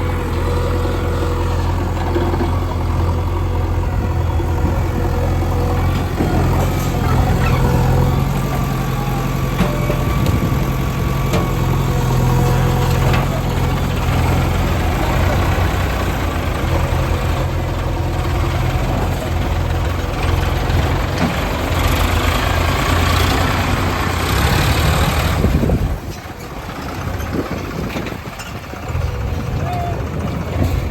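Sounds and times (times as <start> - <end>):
diesel machinery engine running: 0.0 - 30.9.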